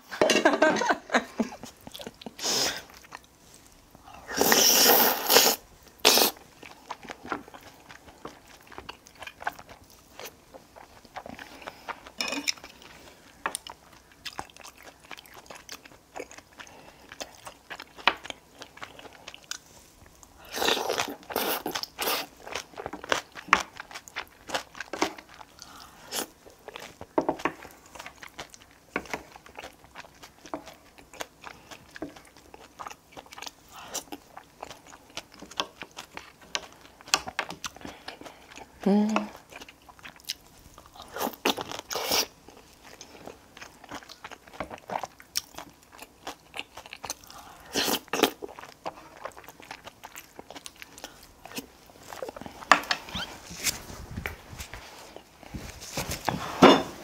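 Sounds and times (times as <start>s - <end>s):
person chewing crunchy food: 1.5s - 57.0s.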